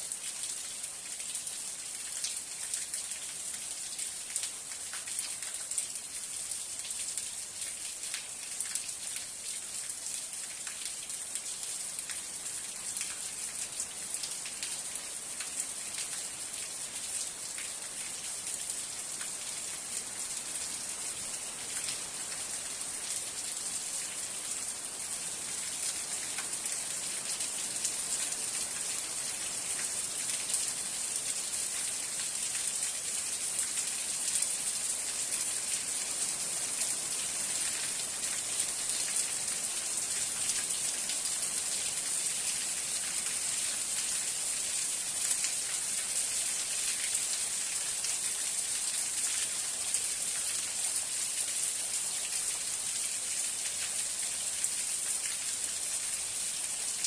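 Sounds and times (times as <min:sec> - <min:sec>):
rain drops ticking on a surface: 0:00.0 - 0:57.0.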